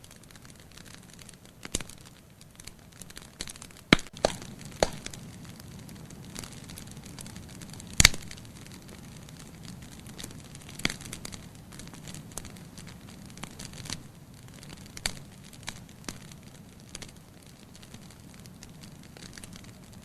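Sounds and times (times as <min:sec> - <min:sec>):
firewood popping and snapping: 0:00.0 - 0:20.0
low rumble of flames: 0:00.0 - 0:20.0.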